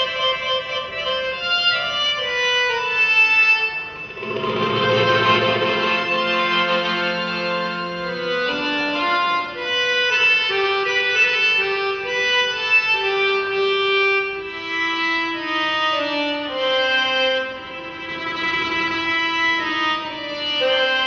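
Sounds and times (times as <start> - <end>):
accordion slow melody: 0.0 - 21.0.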